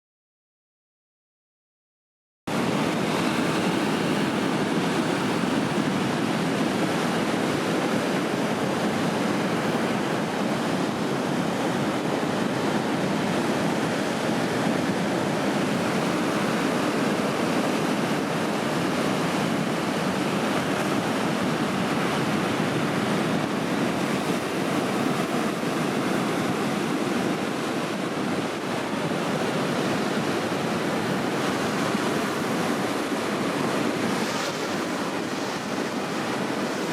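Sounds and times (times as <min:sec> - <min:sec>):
breaking waves: 0:02.5 - 0:36.9
wind on microphone: 0:02.5 - 0:36.9.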